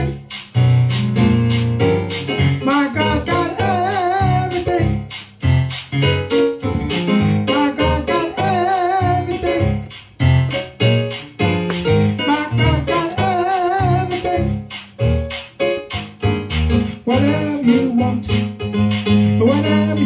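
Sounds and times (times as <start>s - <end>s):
keyboard chords: 0.0s - 20.0s
pulsing bass line: 0.0s - 20.0s.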